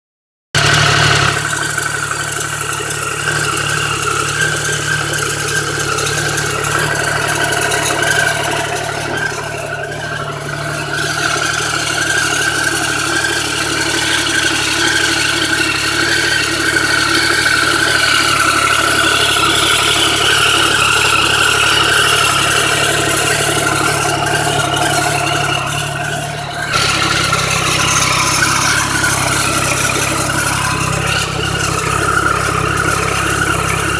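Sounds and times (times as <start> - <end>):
motorcycle engine running: 0.6 - 33.9.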